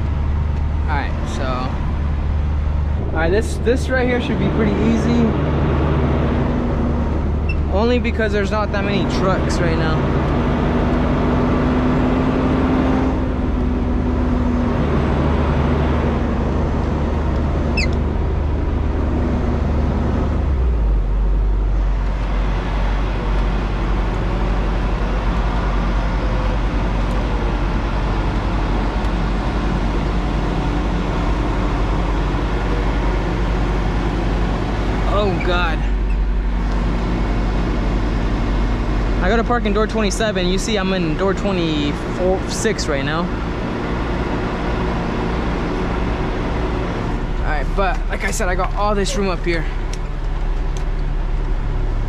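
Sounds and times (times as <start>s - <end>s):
diesel truck engine hum: 0.0s - 52.0s.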